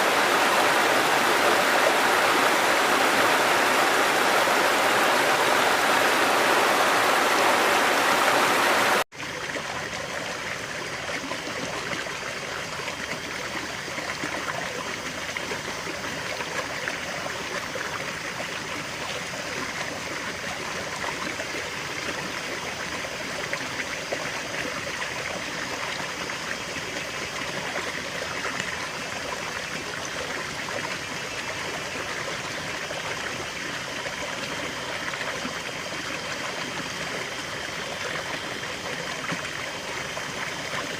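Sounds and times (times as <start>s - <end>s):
river water flowing: 0.0s - 40.9s
stream gurgling: 0.0s - 40.9s.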